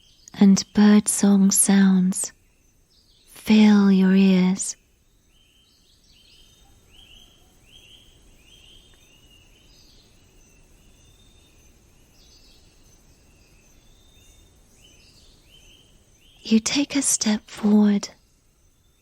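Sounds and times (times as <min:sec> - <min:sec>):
faint steady high tone: 0:00.0 - 0:05.7, 0:06.5 - 0:19.0
bird chirping: 0:00.0 - 0:19.0
low background hiss: 0:00.0 - 0:19.0.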